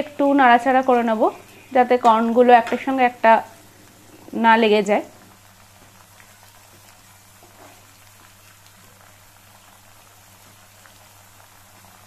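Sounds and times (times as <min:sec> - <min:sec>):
corn sizzling in hot oil: 0:00.0 - 0:12.0.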